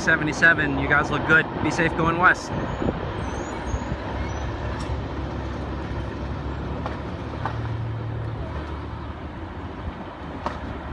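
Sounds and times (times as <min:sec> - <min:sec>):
low engine hum: 0:00.0 - 0:10.9
traffic rumble: 0:00.0 - 0:10.9.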